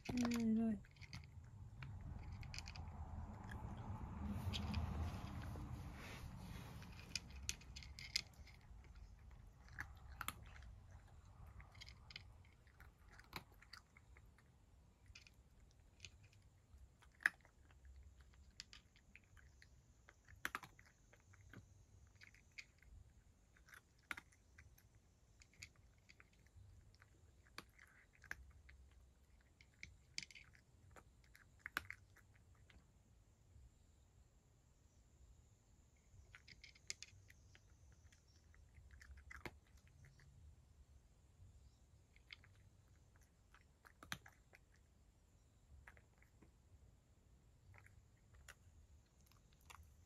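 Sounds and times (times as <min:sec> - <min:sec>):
cat crunching dry kibble: 0:00.0 - 0:33.0, 0:36.1 - 0:40.4, 0:41.9 - 0:50.0.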